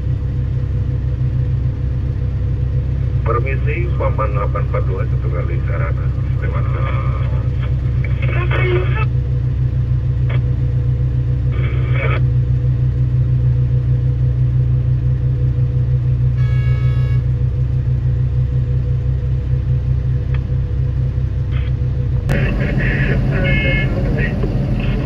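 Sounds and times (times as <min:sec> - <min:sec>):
diesel engine humming: 0:00.0 - 0:16.4, 0:17.2 - 0:25.0.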